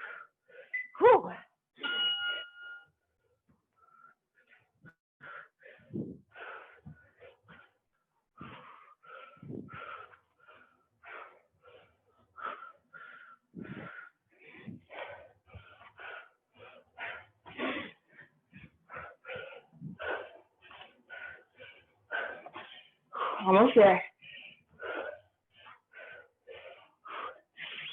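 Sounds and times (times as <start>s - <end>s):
person breathing hard: 0.0s - 0.7s, 3.7s - 27.9s.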